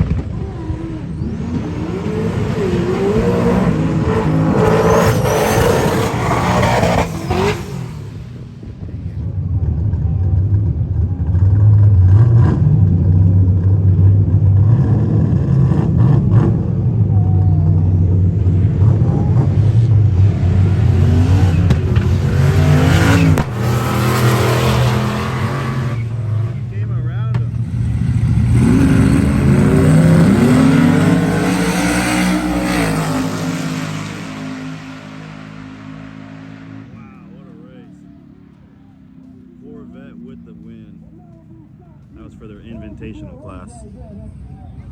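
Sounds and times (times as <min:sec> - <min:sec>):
racing car engines rumbling: 0:00.0 - 0:44.9.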